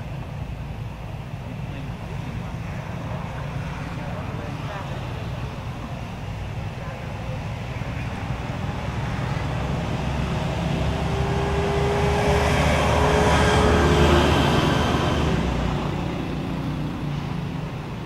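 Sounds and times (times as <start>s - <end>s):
motor vehicle passing by: 1.6s - 18.0s.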